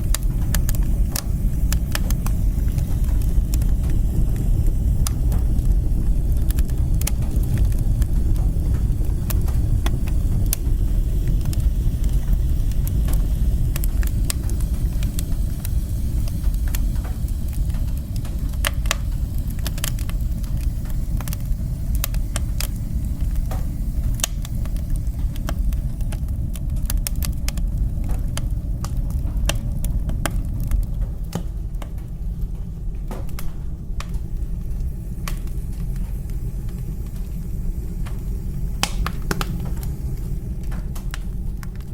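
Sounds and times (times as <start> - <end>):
fire crackling and popping: 0.0 - 41.9
wood fire roaring: 0.0 - 41.9.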